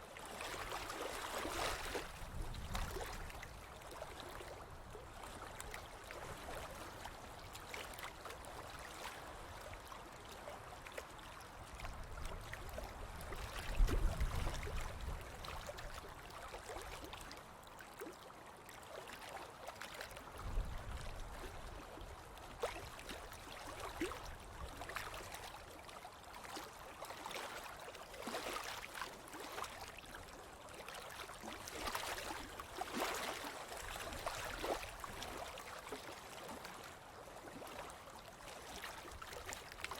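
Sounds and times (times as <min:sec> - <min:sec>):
water splashes and crackles: 0:00.0 - 0:39.9.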